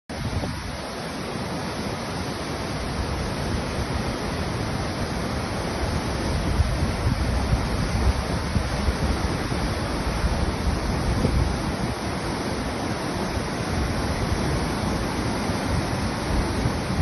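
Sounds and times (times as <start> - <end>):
wind buffeting microphone: 0.1 - 0.9, 2.8 - 17.0
heavy rain: 0.1 - 17.0
wind: 0.1 - 17.0.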